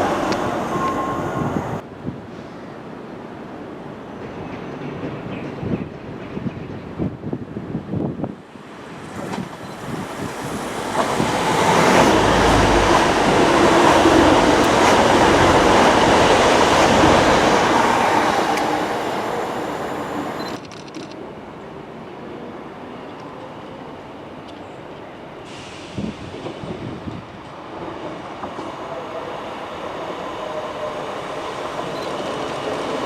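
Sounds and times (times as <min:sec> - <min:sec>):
train passing on rails: 0:00.0 - 0:20.6, 0:21.2 - 0:33.0.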